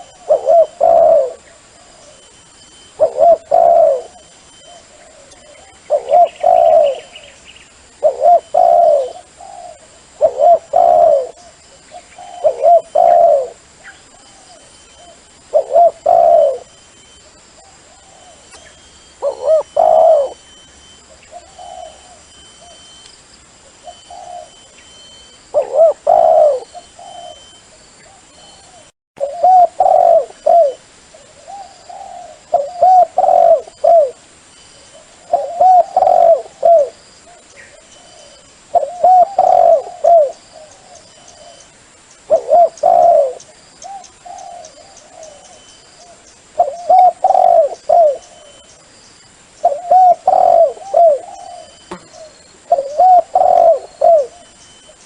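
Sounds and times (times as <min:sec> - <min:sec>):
dove cooing: 0:00.0 - 0:23.0, 0:23.6 - 0:41.7, 0:42.3 - 0:48.7, 0:49.6 - 0:55.0.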